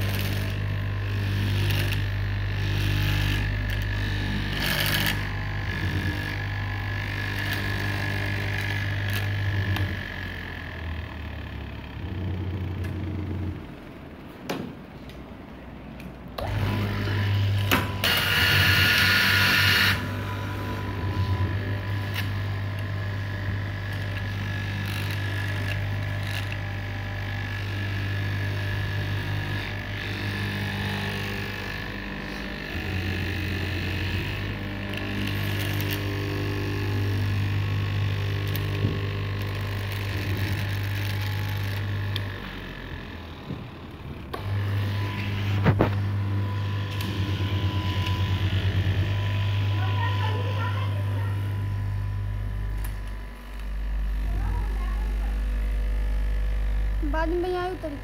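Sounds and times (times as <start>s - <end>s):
cutting machine motor humming: 0.0s - 14.5s, 15.8s - 58.0s.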